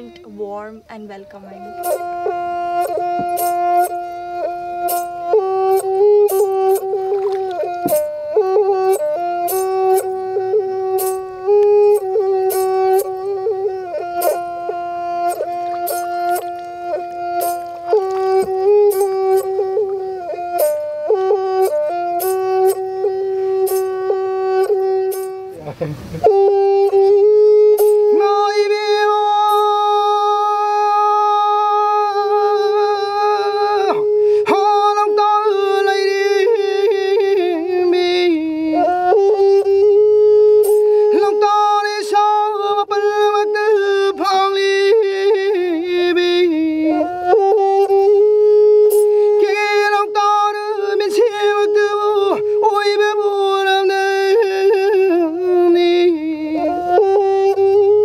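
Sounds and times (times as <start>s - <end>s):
bowed fiddle melody: 0.0s - 58.0s.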